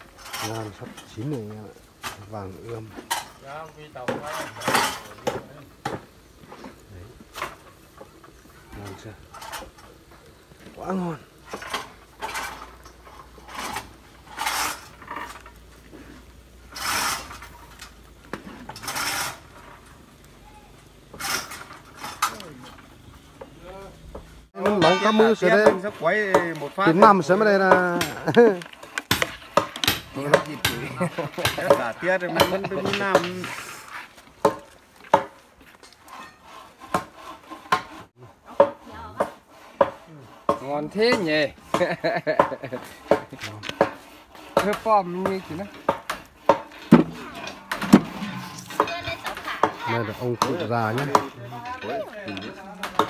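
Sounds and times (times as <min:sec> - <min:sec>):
utensils scraping cookware: 0:00.0 - 0:20.0, 0:21.0 - 0:23.6, 0:24.5 - 0:53.0.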